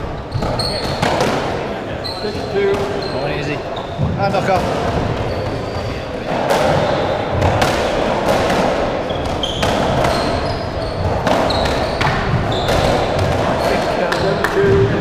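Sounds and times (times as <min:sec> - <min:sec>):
shoes squeaking on wooden floor: 0:00.0 - 0:01.3, 0:02.0 - 0:07.5, 0:09.0 - 0:15.0.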